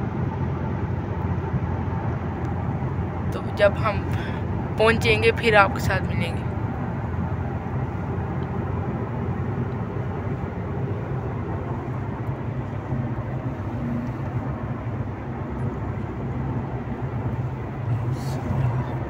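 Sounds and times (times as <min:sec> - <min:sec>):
car cabin road and engine noise: 0:00.0 - 0:19.0.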